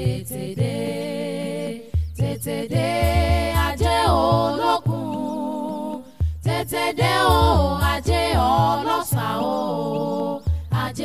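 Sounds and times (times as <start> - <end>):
steady low beat: 1.9 - 11.0.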